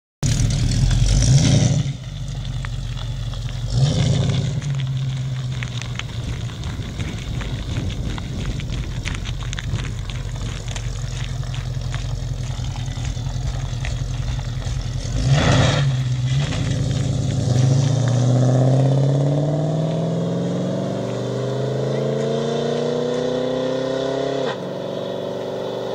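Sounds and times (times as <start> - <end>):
car engine accelerating away: 0.2 - 25.9.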